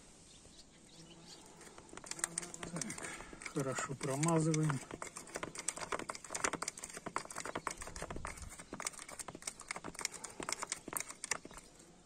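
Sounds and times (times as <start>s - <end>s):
grease gun clicking and clacking: 1.6s - 11.9s.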